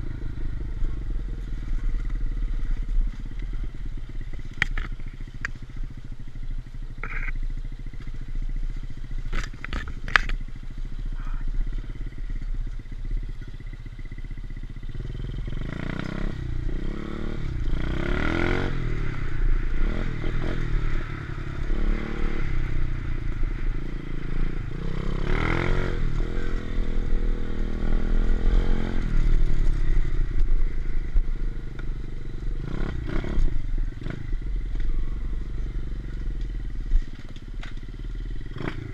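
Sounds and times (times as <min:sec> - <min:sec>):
motorbike engine revving: 0:06.8 - 0:38.9.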